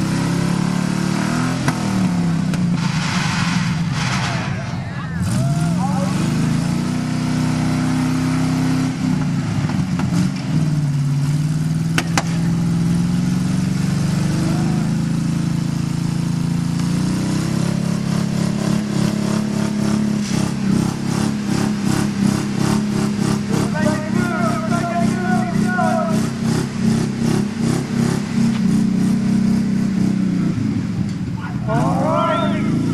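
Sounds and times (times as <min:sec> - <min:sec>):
truck engines running hard: 0:00.0 - 0:32.9.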